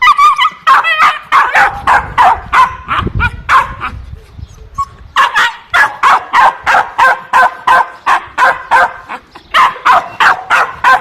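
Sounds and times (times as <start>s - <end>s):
dog barking: 0.0s - 3.8s, 5.2s - 11.0s.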